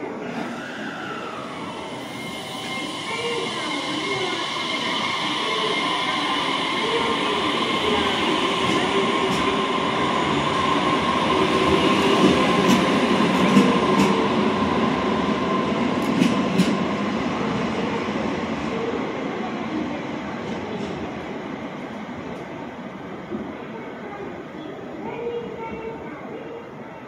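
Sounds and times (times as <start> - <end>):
train rolling noise: 0.0 - 27.0.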